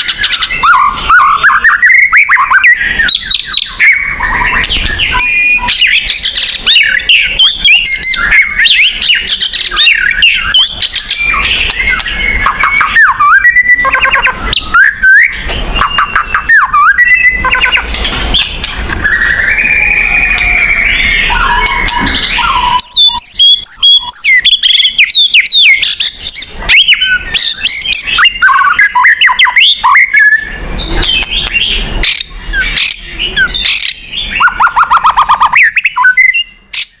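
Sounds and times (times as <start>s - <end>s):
songbird singing loudly: 0.0s - 37.0s.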